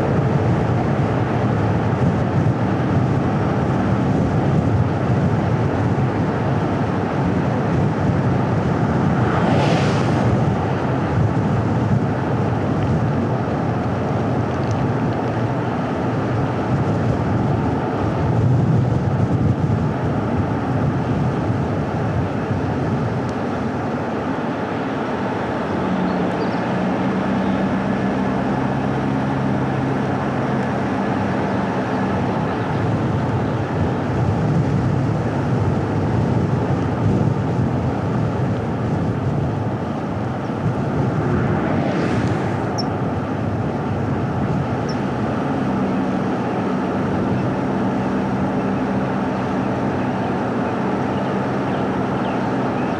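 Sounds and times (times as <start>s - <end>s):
low engine drone: 0.0s - 52.9s
tyre and road noise: 0.0s - 52.9s
wind noise: 0.0s - 52.9s.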